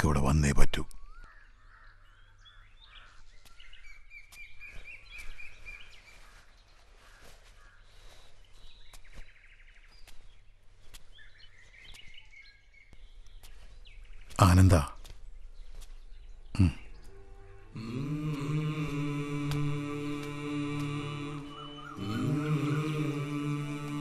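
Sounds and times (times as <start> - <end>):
birds chirping and twittering: 0.0 - 24.0.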